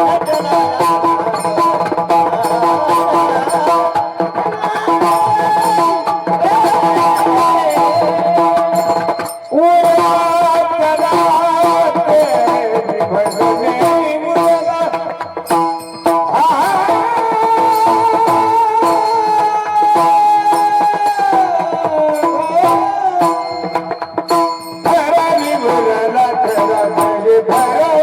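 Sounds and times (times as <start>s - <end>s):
hand drum and percussion: 0.0s - 28.0s
person singing: 0.0s - 28.0s.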